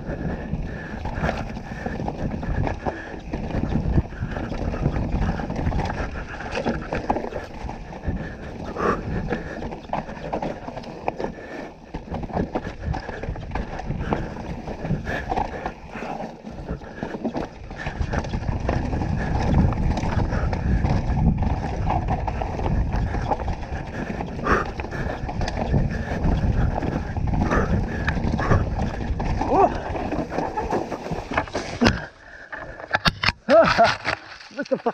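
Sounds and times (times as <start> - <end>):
bike tyres rolling over dirt: 0.0 - 32.8
wind rumbling on camera: 0.0 - 34.2
bike knocking and rattling: 0.0 - 34.8.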